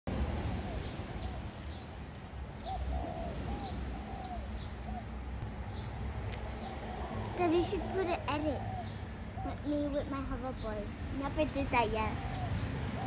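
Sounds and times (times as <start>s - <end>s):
birds cooing: 0.5s - 10.7s, 12.1s - 13.0s.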